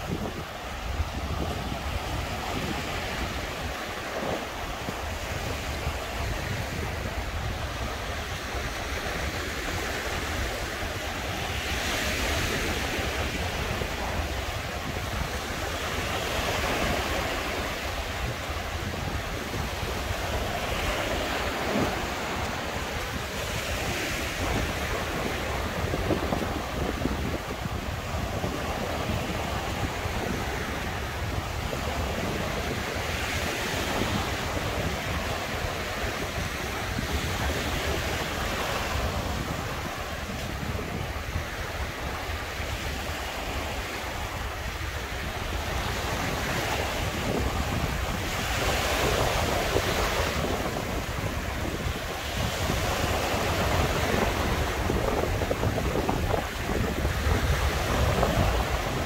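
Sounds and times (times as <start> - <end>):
surf breaking on shore: 0.0 - 59.0
wind rumbling on microphone: 0.0 - 59.0.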